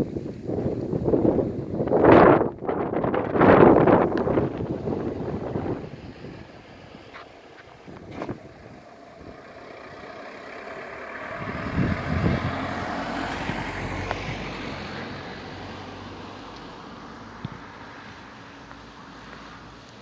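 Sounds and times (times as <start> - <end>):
van driving past: 2.9 - 20.0.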